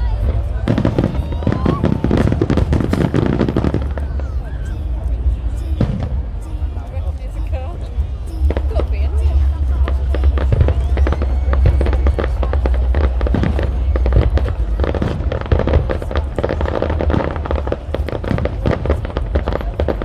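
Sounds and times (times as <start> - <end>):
fireworks bangs and crackles: 0.0 - 20.0
low rumble: 0.0 - 20.0.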